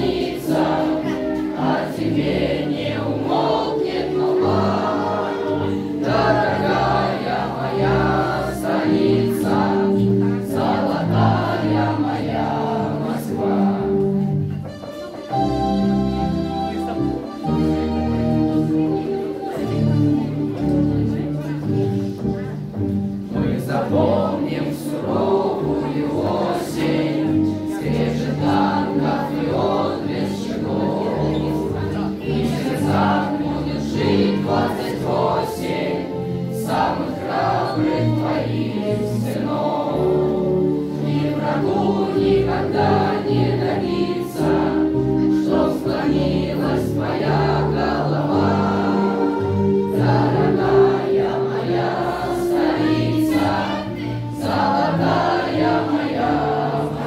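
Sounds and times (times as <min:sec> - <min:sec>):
children's choir singing: 0:00.0 - 0:57.0
musical accompaniment with steady beat: 0:00.0 - 0:57.0.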